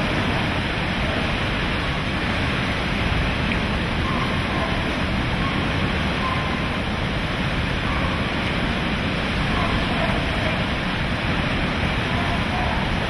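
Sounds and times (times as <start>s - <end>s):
hurricane wind: 0.0s - 13.0s
storm surge water rushing: 0.0s - 13.0s.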